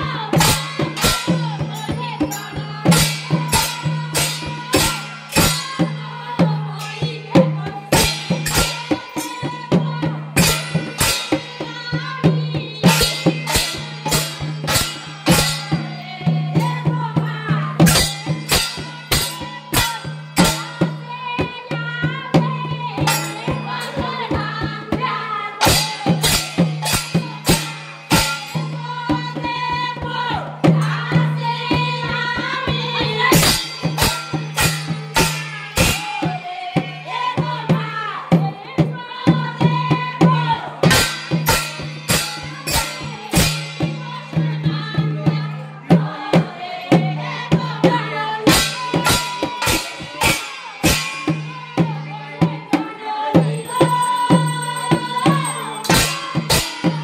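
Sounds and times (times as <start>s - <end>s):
group singing devotional song: 0.0s - 57.0s
hand percussion: 0.0s - 57.0s.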